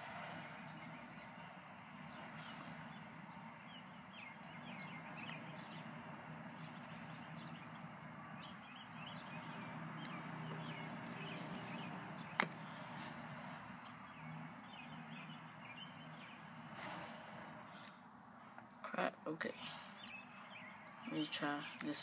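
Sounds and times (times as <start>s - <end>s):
faint bird chirps: 0.0s - 18.6s, 19.6s - 22.0s
steady low hum: 0.0s - 22.0s.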